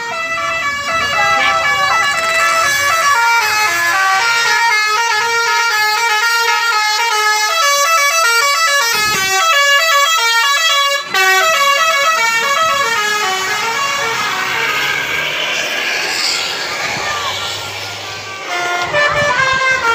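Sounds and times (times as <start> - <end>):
bus musical horn melody: 0.0 - 15.2, 18.1 - 19.9.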